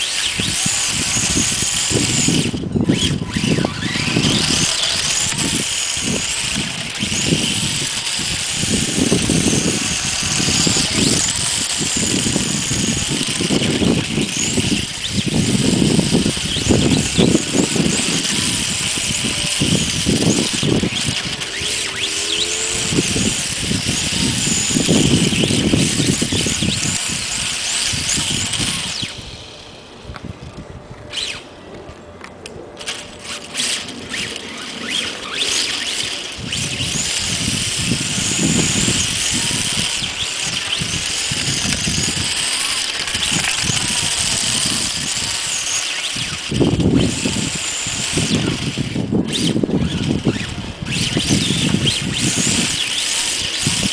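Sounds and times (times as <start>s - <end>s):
electric motor whining: 0.0s - 53.9s.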